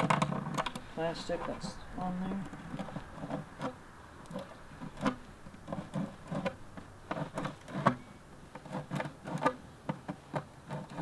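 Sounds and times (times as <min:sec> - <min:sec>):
knife scraping plastic: 0:00.0 - 0:01.7, 0:02.3 - 0:11.0.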